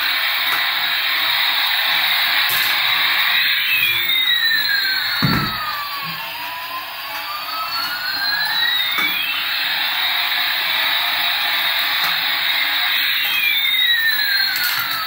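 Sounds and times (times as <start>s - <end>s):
toy jet engine sound effect: 0.0s - 15.0s.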